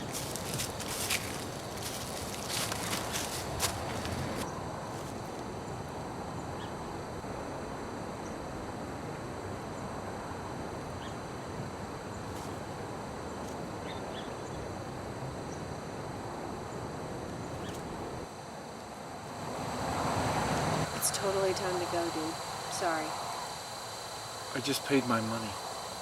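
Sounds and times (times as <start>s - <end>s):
outdoor ambient noise: 0.0s - 26.0s.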